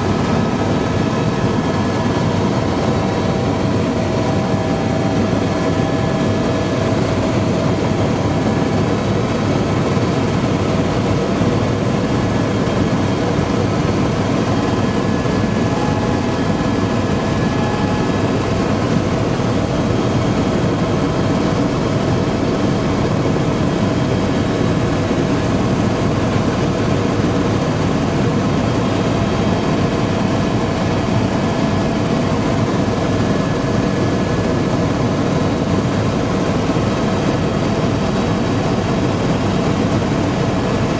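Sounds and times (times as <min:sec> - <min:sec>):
helicopter engine and rotor noise: 0:00.0 - 0:40.9.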